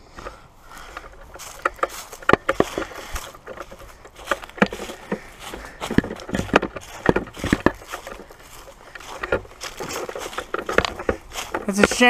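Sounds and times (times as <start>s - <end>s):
footsteps through dry brush: 0.0s - 12.0s.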